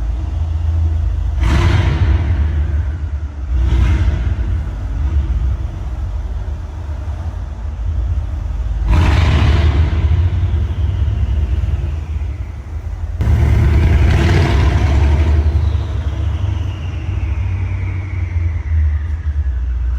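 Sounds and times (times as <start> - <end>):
car engine rumbling and revving: 0.0 - 19.9.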